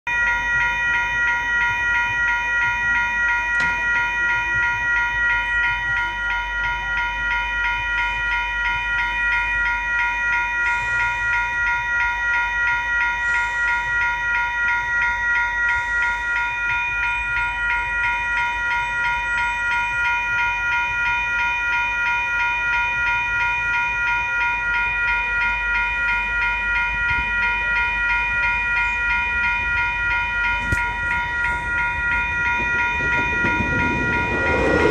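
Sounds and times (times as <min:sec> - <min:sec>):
level crossing bells ringing: 0:00.1 - 0:34.9.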